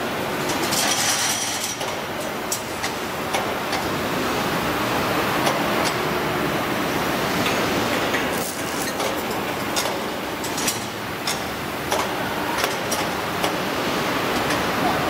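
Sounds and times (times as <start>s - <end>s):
workshop background noise: 0.0s - 15.0s.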